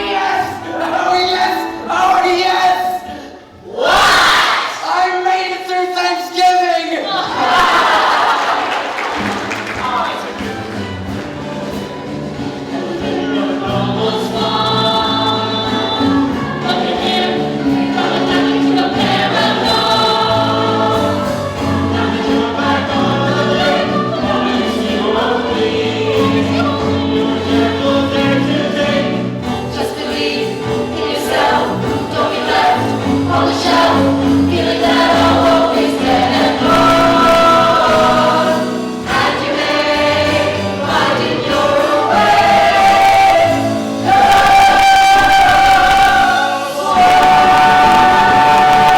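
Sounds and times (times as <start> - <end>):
ensemble singing in chorus: 0.0 - 2.3, 3.0 - 5.0, 7.0 - 11.2, 11.9 - 48.9.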